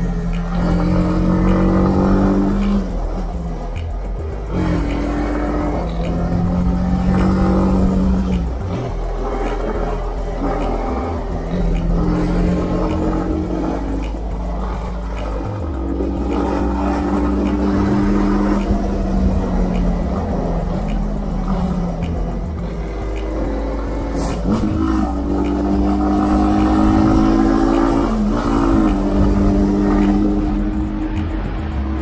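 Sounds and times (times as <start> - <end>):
low wind rumble: 0.0 - 32.0
motorcycle engine cruising: 0.0 - 32.0.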